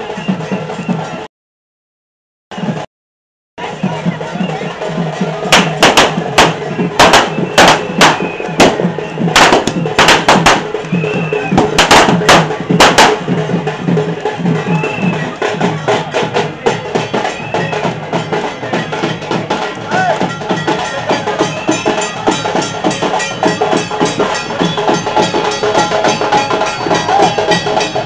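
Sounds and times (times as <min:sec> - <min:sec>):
drums beating loudly: 0:00.0 - 0:01.3, 0:02.6 - 0:02.8, 0:03.6 - 0:28.0
crowd voices: 0:03.6 - 0:28.0.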